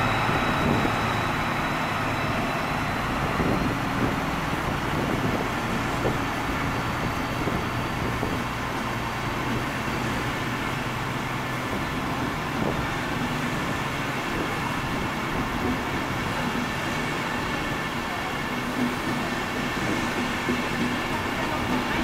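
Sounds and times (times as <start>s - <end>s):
diesel engine drone: 0.0s - 22.0s
train wheels rumbling on rails: 0.0s - 22.0s.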